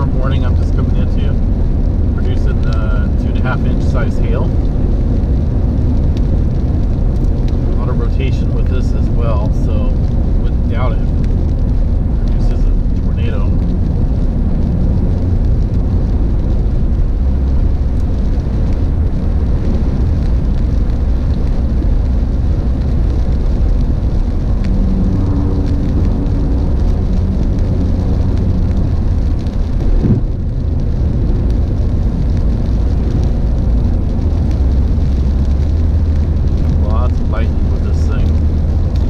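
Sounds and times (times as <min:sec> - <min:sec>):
car interior road rumble: 0:00.0 - 0:39.0.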